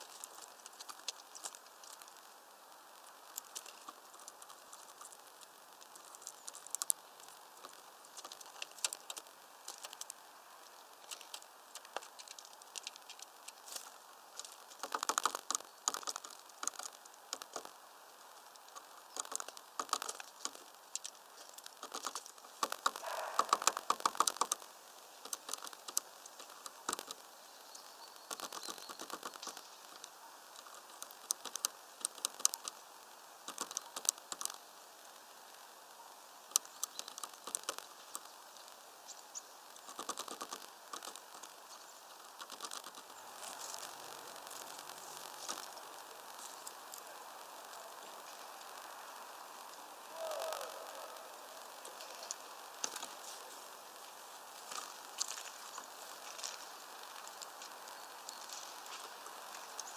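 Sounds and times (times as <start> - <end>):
birds pecking at seeds: 0.0 - 59.9.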